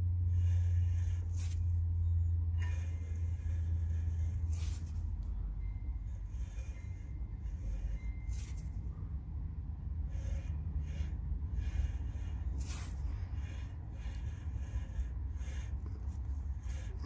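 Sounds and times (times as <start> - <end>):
person breathing close to microphone: 0.0 - 17.0
steady low rumble: 0.0 - 17.0.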